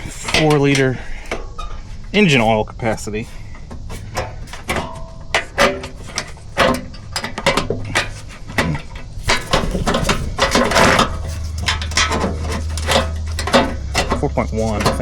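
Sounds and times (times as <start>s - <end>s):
metallic clanks and rattles: 0.0s - 15.0s.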